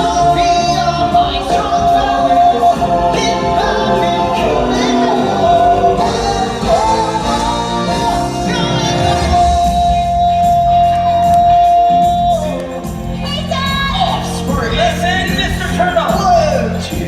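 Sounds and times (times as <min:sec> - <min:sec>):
show tune singing with band: 0:00.0 - 0:17.0.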